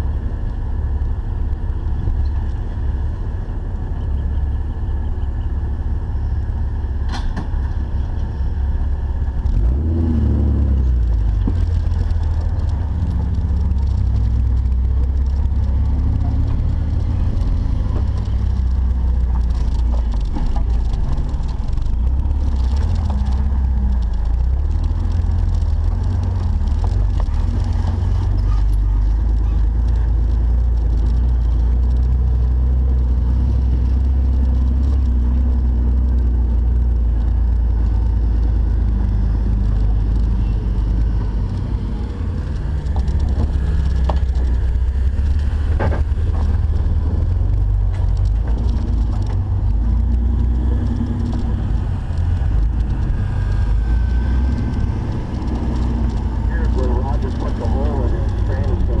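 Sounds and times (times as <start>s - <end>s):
engine running at low revs: 0.0s - 59.0s.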